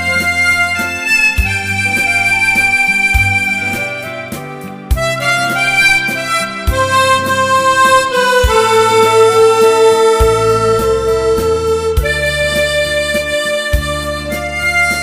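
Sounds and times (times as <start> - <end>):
harmonica slow melody: 0.0 - 15.0
low musical accompaniment: 0.0 - 15.0.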